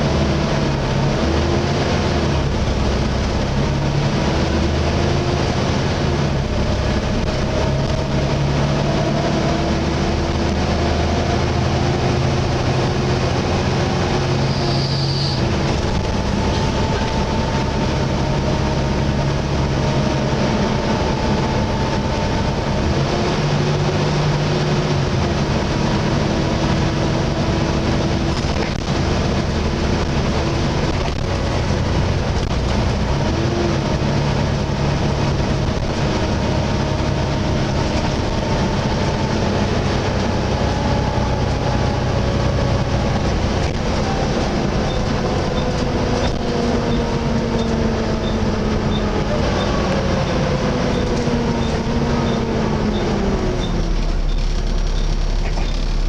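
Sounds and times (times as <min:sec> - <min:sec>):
bus engine drone: 0:00.0 - 0:56.0
road noise: 0:00.0 - 0:56.0.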